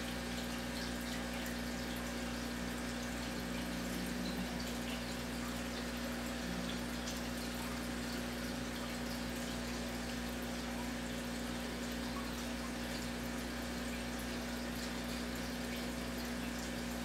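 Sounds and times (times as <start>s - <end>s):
aquarium filter humming: 0.0s - 17.0s
water bubbling and trickling: 0.0s - 17.0s.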